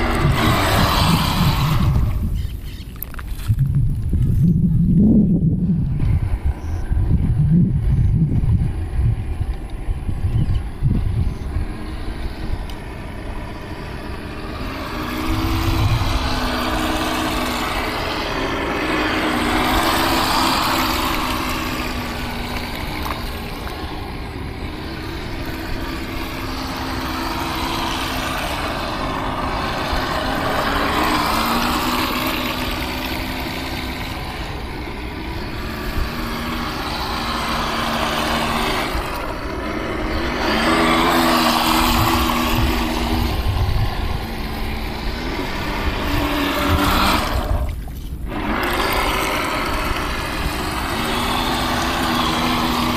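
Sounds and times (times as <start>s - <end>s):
toy boat motor whining: 0.0s - 5.0s, 6.0s - 52.9s
hull churning water: 0.0s - 52.9s.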